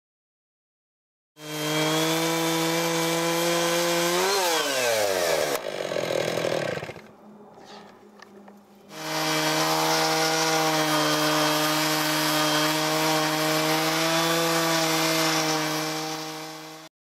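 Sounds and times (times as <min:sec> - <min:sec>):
chainsaw cutting log: 0:01.4 - 0:07.1, 0:08.9 - 0:16.9.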